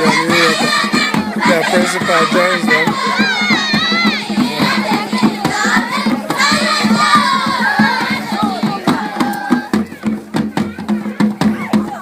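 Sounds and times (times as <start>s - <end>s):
children singing and shouting: 0.0s - 12.0s.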